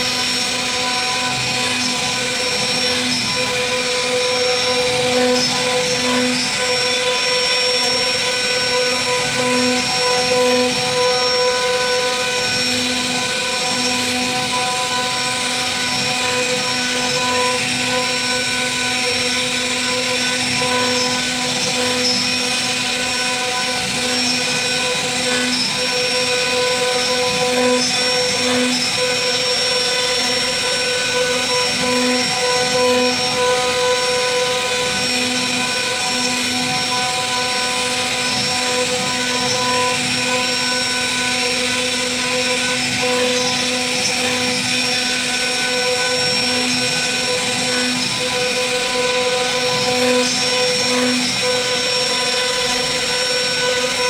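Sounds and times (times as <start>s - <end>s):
cnc router spindle whine: 0.0s - 54.0s.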